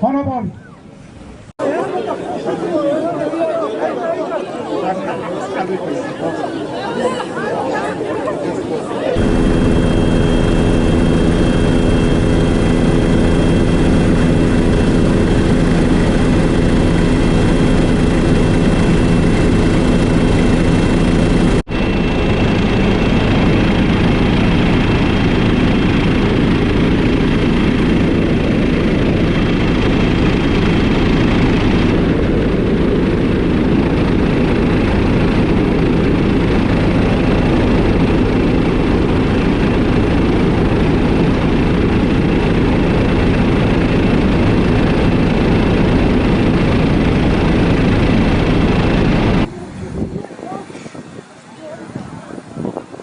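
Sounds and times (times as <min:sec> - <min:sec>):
helicopter turbine and rotor: 0:08.6 - 0:53.0.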